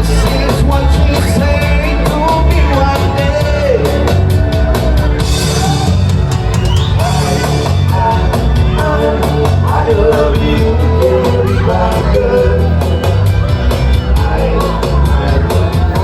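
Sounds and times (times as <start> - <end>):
person singing: 0.0 - 6.0, 7.0 - 16.0
bass guitar: 0.0 - 16.0
drum kit: 0.0 - 16.0.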